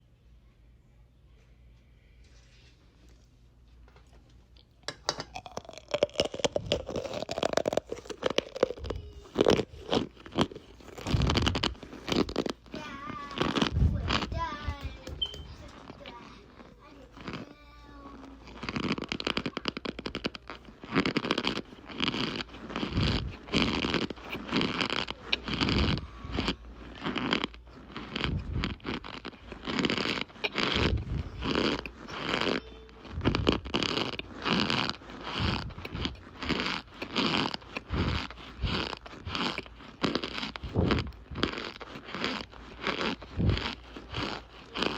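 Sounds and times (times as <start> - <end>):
cornstarch squeaking and crunching: 5.4 - 44.9.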